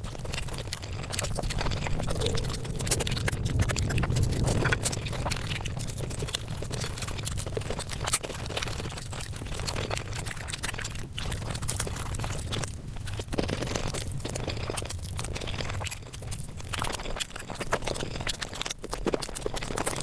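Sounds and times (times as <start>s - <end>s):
sped-up chewing clicks and crunches: 0.0s - 20.0s.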